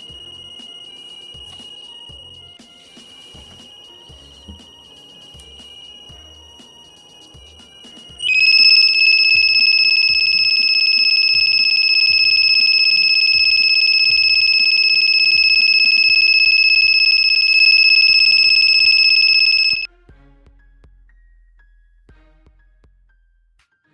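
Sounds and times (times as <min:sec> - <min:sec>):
continuous high-pitched buzzer beep: 0:00.0 - 0:19.9.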